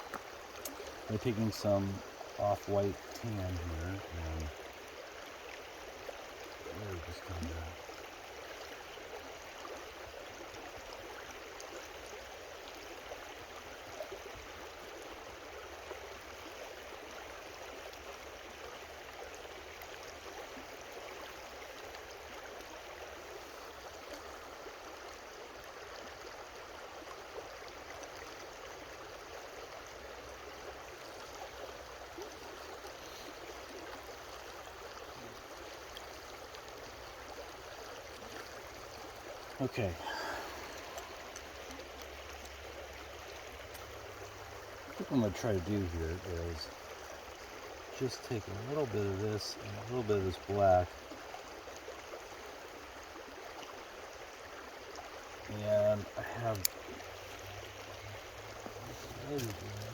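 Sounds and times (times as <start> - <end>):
creek babbling: 0.0 - 59.9.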